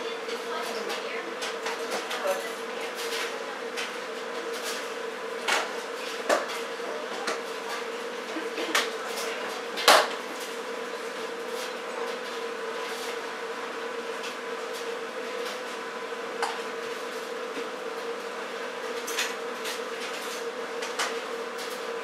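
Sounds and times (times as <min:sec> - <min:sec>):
steady room hum: 0:00.0 - 0:22.0.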